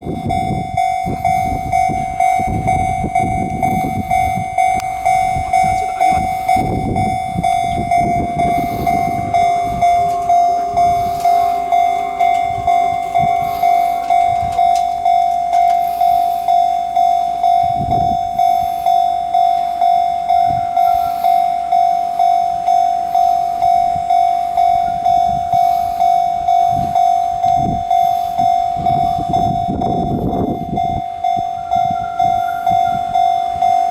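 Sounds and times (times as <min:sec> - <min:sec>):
level-crossing warning alarm ringing: 0:00.0 - 0:33.9.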